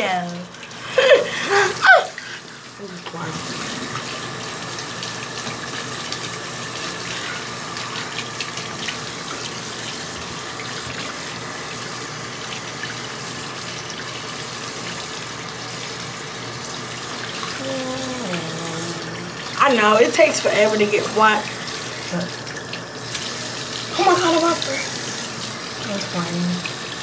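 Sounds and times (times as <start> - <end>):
tap running water: 0.0 - 27.0.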